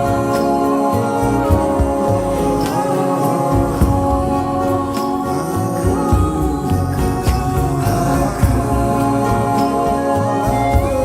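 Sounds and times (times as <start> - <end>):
devotional chant music: 0.0 - 11.0
pulsing bass: 0.0 - 11.0.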